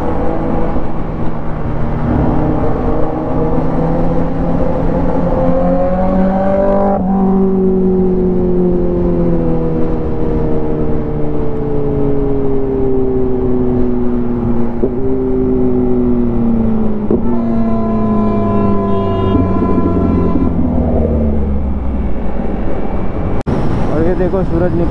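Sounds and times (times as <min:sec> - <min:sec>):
motorcycle engine at road speed: 0:00.0 - 0:23.4.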